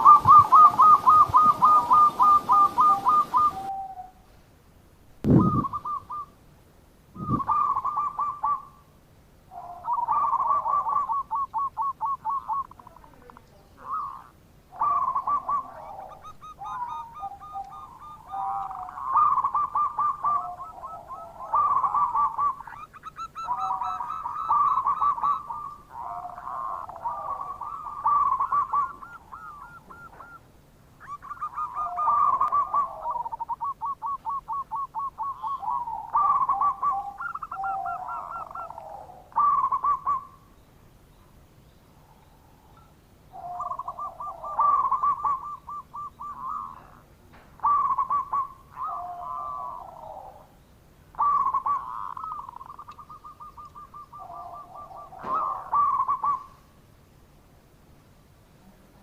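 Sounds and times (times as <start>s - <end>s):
dove cooing: 0.0s - 4.2s, 5.2s - 6.4s, 7.1s - 40.6s, 42.0s - 56.7s.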